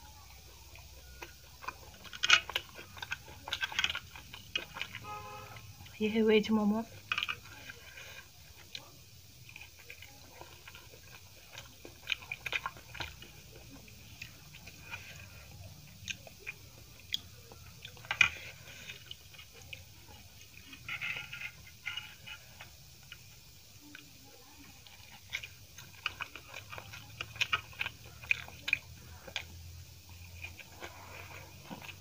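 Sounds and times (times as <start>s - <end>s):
chewing sounds: 0.0s - 32.0s.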